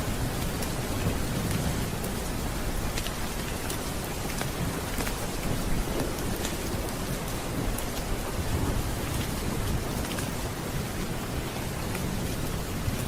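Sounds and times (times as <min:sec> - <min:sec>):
rolling thunder rumble: 0:00.0 - 0:13.0
steady rain: 0:00.0 - 0:13.0.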